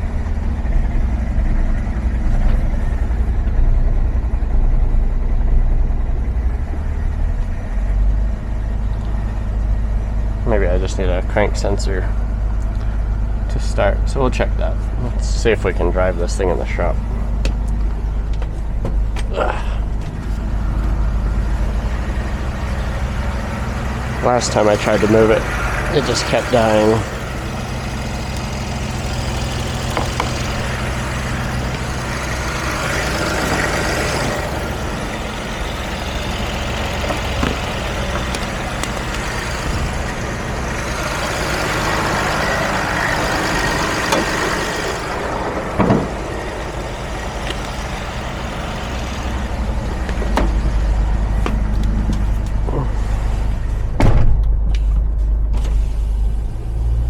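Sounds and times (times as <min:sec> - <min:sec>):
diesel van engine revving: 0:00.0 - 0:57.0.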